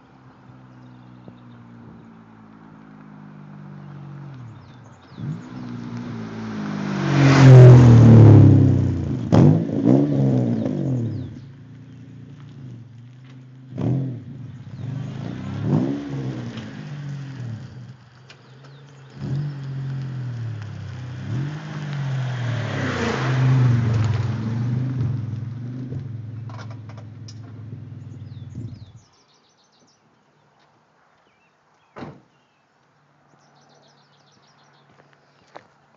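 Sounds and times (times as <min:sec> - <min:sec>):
car engine revving and idling: 0:00.2 - 0:29.0.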